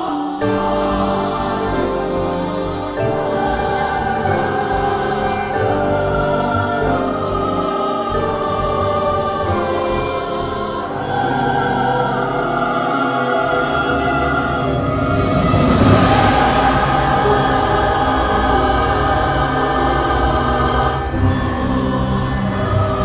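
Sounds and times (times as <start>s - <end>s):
choir singing sustained chords: 0.0s - 23.0s
orchestral music: 0.0s - 23.0s.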